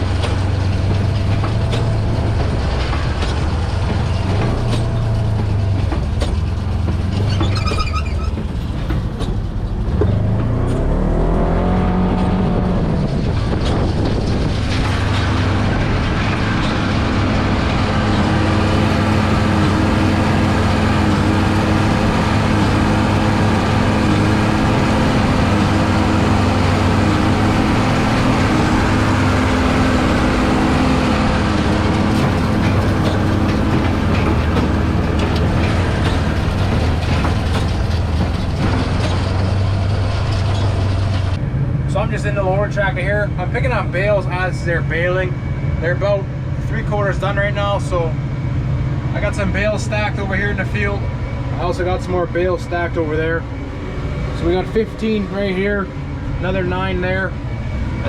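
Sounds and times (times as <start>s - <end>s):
tractor engine revving: 0.0s - 58.0s.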